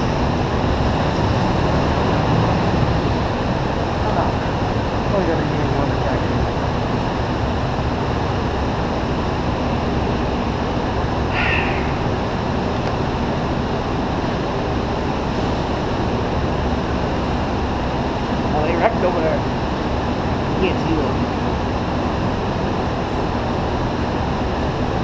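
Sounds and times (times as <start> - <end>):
loud rushing indoor hall noise: 0.0 - 25.0.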